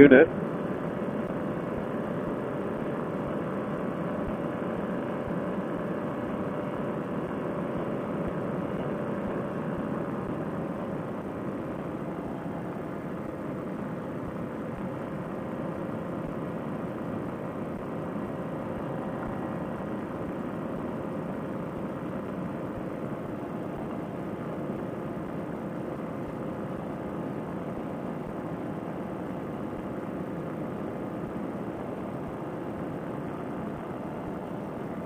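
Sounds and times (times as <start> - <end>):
paramotor engine and propeller drone: 0.0 - 35.0.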